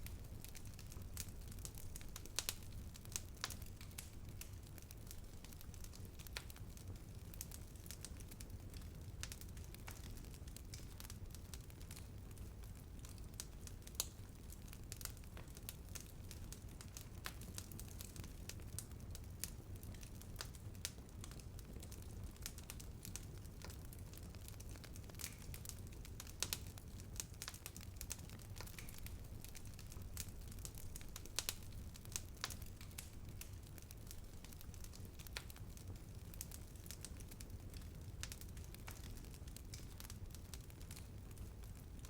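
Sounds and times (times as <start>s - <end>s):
low rumble of flames: 0.0s - 42.0s
wood crackling and popping: 0.0s - 42.0s.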